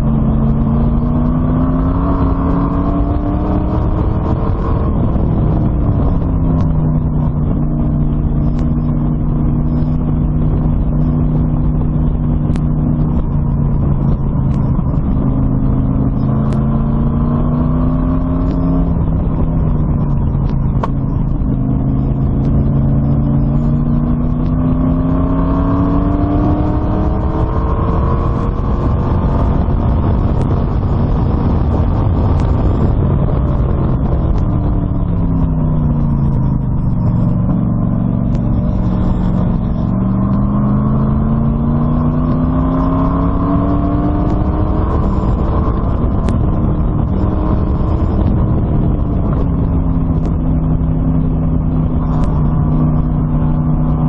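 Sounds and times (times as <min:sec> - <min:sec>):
car engine running: 0:00.0 - 0:54.0
low rumble: 0:00.0 - 0:54.0.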